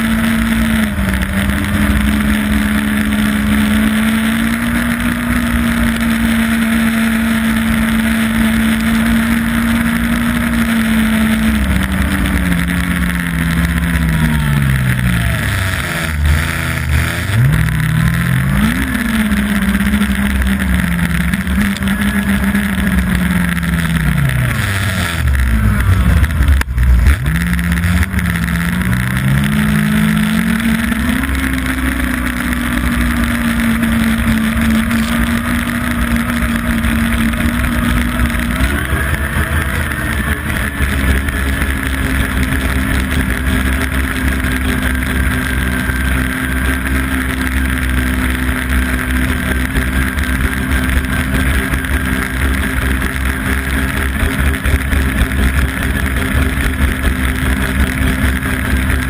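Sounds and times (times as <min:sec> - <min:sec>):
snowmobile engine running: 0:00.0 - 0:59.0
snowmobile track noise: 0:00.0 - 0:59.0.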